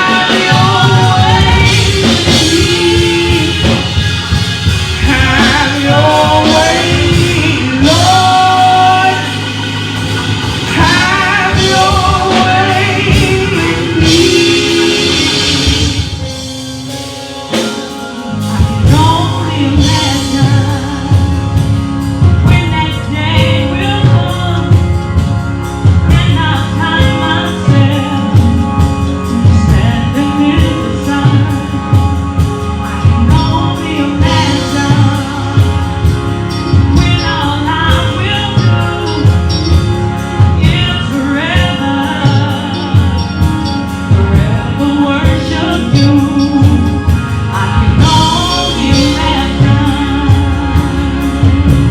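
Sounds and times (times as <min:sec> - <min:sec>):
band with drums bass and keyboard: 0:00.0 - 0:51.9
voices singing gospel: 0:00.0 - 0:51.9.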